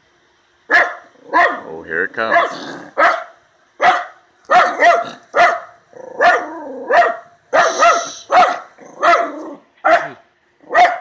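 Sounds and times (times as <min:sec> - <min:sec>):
dog barking fiercely: 0:00.7 - 0:11.0.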